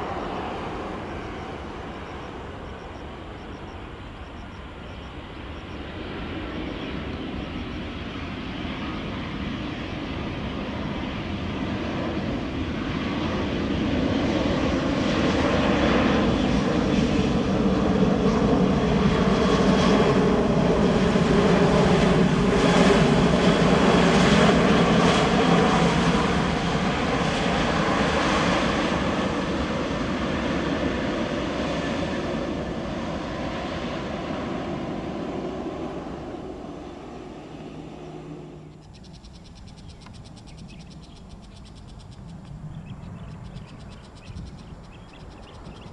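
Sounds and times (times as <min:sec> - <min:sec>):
jet airliner passing at high power: 0:00.0 - 0:45.9.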